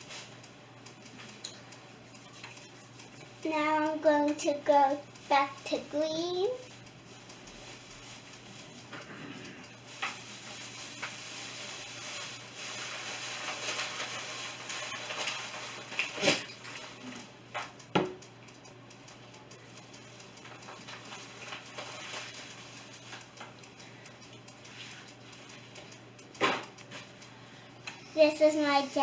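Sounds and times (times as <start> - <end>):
sharp clicks: 0.0 - 10.5, 16.0 - 29.0.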